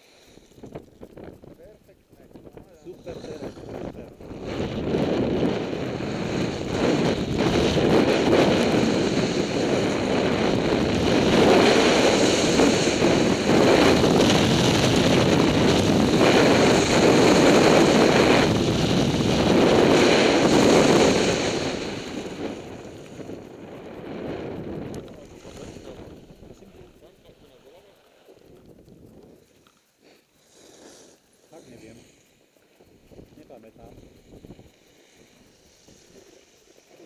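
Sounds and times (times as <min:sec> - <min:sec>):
skis hissing on snow: 0:00.0 - 0:00.6, 0:02.7 - 0:04.8, 0:05.7 - 0:23.4, 0:25.2 - 0:27.0, 0:29.4 - 0:37.0
wind rushing over microphone: 0:00.0 - 0:29.6, 0:32.8 - 0:37.0.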